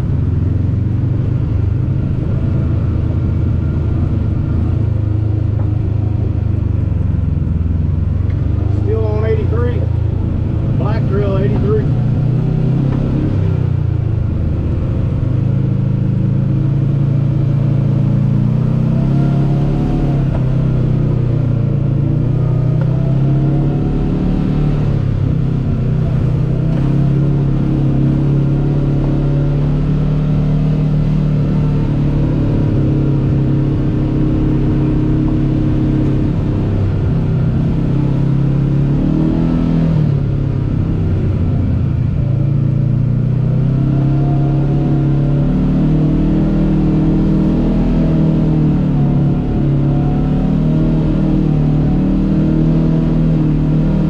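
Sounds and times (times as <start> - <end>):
side-by-side engine revving: 0.0 - 54.0.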